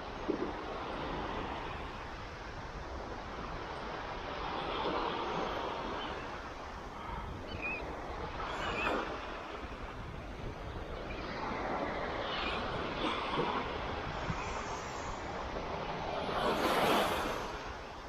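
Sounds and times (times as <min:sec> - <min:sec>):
small waves breaking on sand: 0:00.0 - 0:18.0
wind on microphone: 0:00.0 - 0:18.0.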